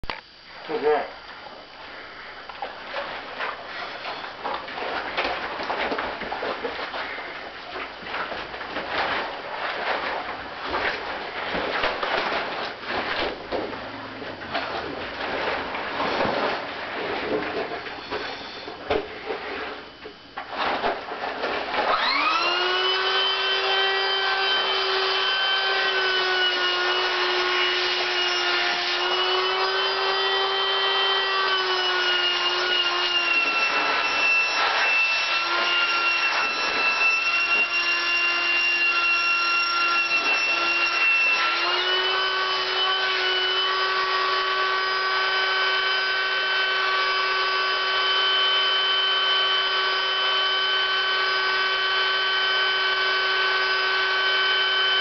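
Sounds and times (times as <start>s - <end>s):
electric air pump humming: 0.0s - 55.0s.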